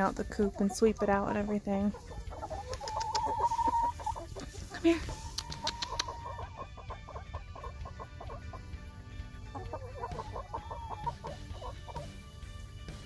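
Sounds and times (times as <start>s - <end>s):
drawn-out hen note: 0.0s - 13.0s
hens clucking: 0.0s - 13.0s.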